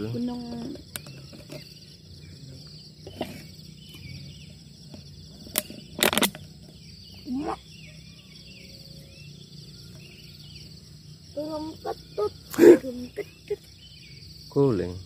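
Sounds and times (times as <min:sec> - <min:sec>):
bird chirps: 0:00.0 - 0:15.0
insect chorus: 0:00.0 - 0:15.0.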